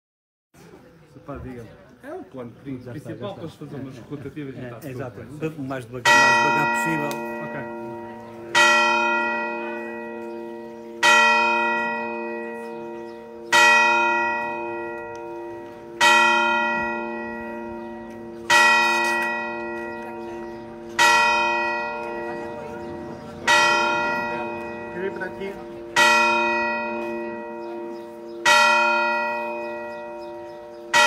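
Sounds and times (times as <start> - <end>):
church bell tolling: 6.0 - 31.0.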